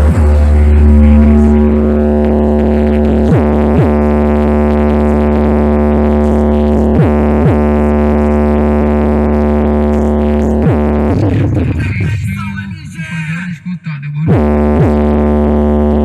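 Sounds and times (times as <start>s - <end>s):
falling bass pitch drops: 0.0s - 12.9s
bass-heavy electronic music: 0.0s - 16.0s.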